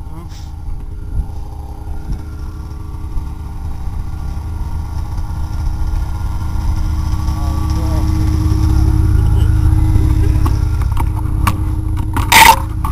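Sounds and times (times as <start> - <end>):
snowmobile engine idling: 0.0 - 12.9.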